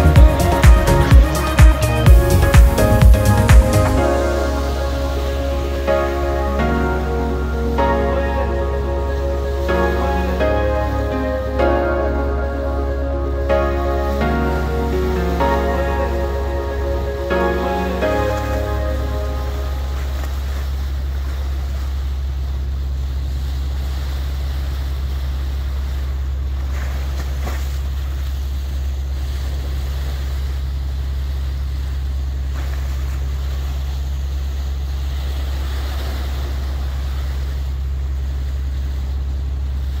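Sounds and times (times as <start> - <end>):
boat engine droning: 0.0 - 40.0
water rushing and splashing: 0.0 - 40.0.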